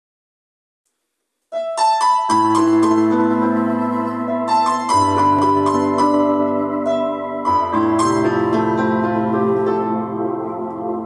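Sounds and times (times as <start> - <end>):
piano notes and chords: 1.5 - 11.0.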